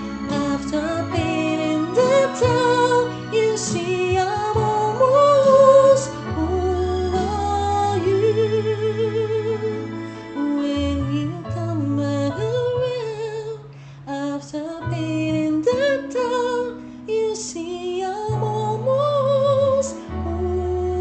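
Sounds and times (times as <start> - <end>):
low held accompaniment notes: 0.0 - 21.0
woman singing with vibrato: 0.0 - 21.0.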